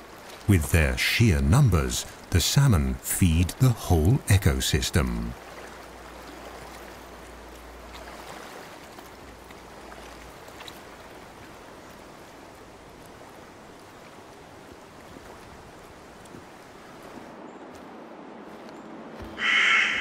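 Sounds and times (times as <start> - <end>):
faint water splashes: 0.0 - 19.5
stream rushing: 0.0 - 20.0.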